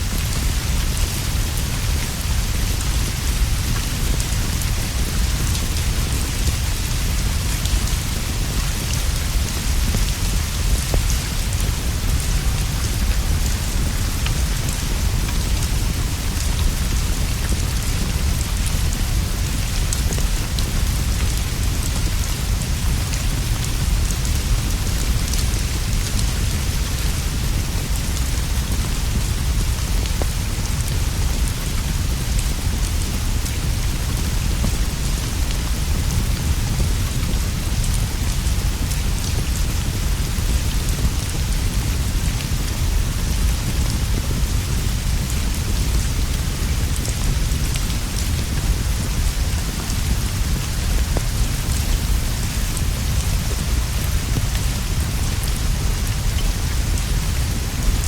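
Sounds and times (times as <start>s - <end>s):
heavy rain on leaves and roof: 0.0s - 58.0s.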